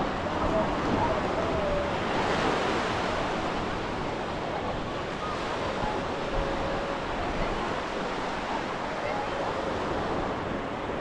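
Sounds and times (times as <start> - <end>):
ocean surf on a beach: 0.0 - 11.0.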